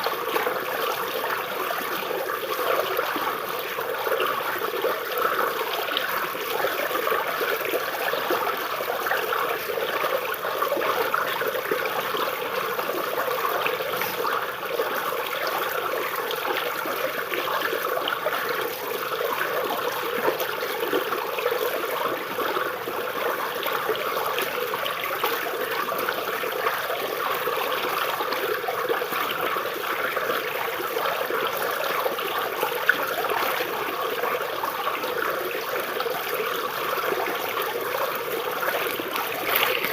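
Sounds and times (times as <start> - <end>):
river water babbling over roots: 0.0 - 39.9.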